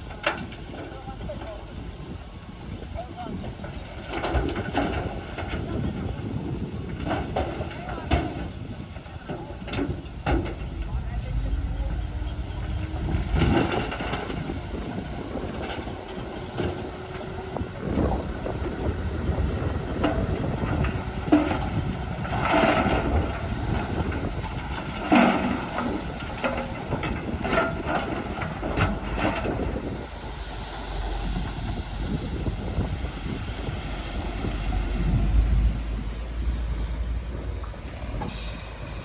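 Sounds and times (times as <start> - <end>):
bulldozer engine rumble: 0.0 - 39.0.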